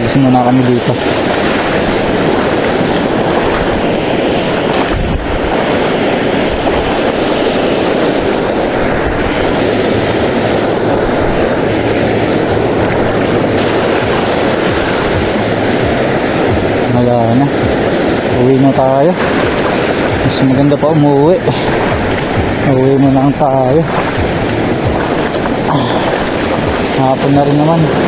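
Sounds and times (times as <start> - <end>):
waves washing: 0.0 - 28.0
wind buffeting microphone: 0.0 - 28.0.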